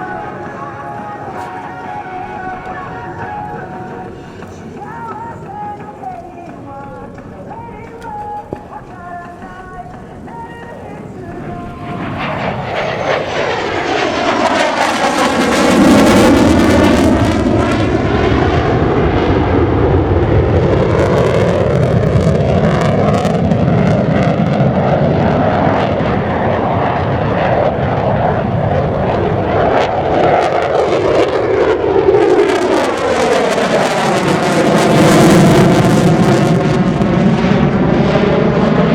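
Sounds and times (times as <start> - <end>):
jet engine roaring: 0.0 - 38.9.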